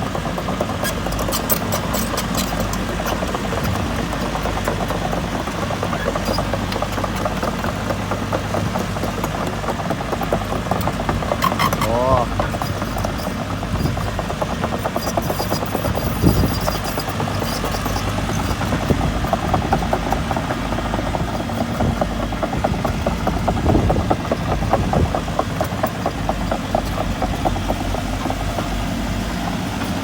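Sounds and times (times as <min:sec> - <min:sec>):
excavator diesel engine running: 0:00.0 - 0:30.0
rapid rattle of tracks: 0:00.0 - 0:30.0.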